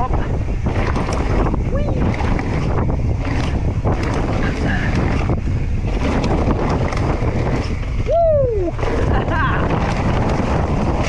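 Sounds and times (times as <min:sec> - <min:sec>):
bike rattling over bumps: 0:00.0 - 0:11.0
wind on microphone: 0:00.0 - 0:11.0.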